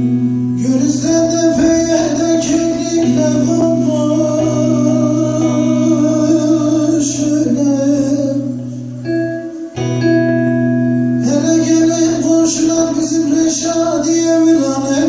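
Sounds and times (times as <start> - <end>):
plucked string instrument: 0.0 - 15.0
man singing folk song: 0.6 - 8.8, 11.2 - 15.0.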